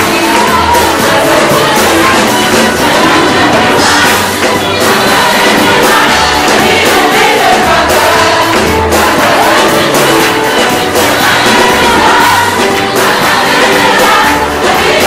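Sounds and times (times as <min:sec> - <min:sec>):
band accompaniment: 0:00.0 - 0:15.0
choir singing: 0:00.0 - 0:15.0
steady drum beat: 0:00.0 - 0:15.0.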